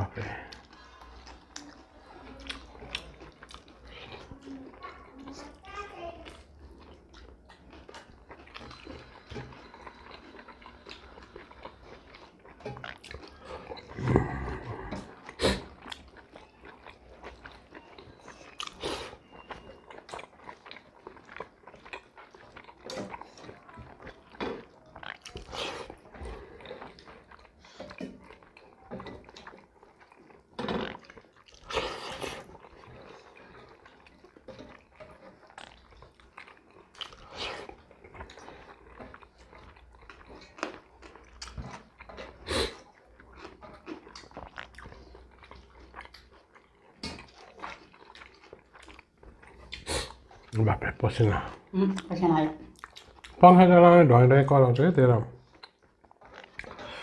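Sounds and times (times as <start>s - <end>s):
mouth smacks and crunches: 0.0s - 4.3s, 6.3s - 50.6s, 51.4s - 53.4s, 55.4s - 57.0s
people chewing and mouth sounds: 0.0s - 57.0s.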